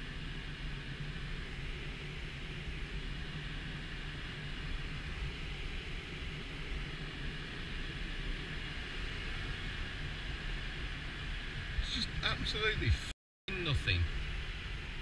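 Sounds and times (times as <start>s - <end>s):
airflow rushing around glider cockpit: 0.0s - 15.0s.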